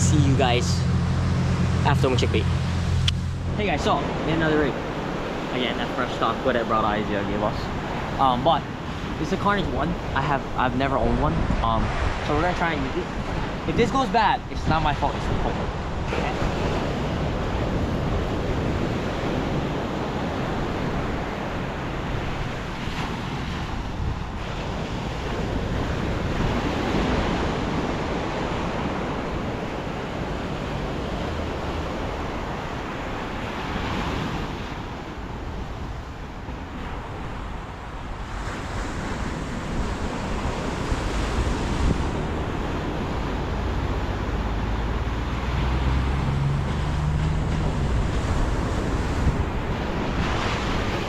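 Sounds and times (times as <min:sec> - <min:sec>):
surf breaking on shore: 0:00.0 - 0:51.0
wind buffeting microphone: 0:00.0 - 0:51.0.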